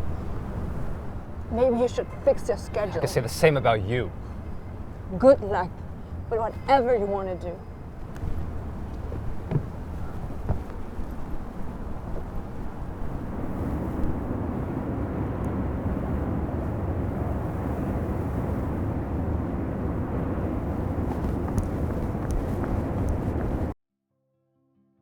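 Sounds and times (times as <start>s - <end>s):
low outdoor rumble: 0.0s - 23.8s.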